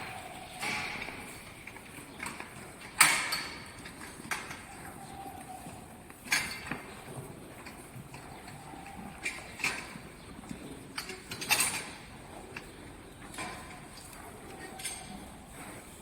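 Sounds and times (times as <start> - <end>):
cattle feeding: 0.0 - 16.0.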